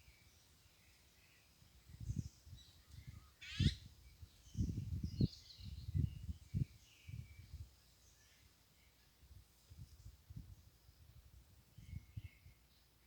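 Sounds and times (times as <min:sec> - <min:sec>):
faint bird chirps: 0:00.0 - 0:09.4, 0:11.7 - 0:13.0.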